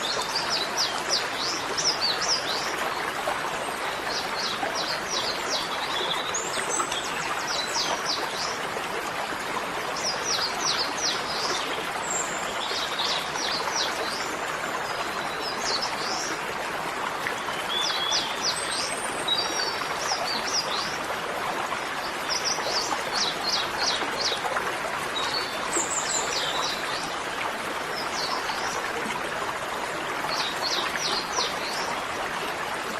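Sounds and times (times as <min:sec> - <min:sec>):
flowing water: 0:00.0 - 0:32.9.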